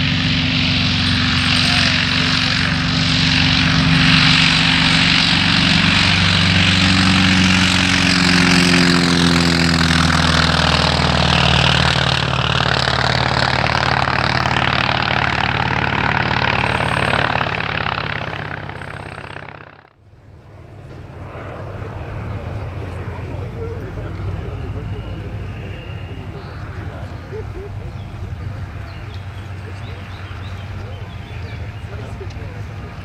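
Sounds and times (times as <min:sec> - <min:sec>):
propeller plane flying past: 0:00.0 - 0:33.0.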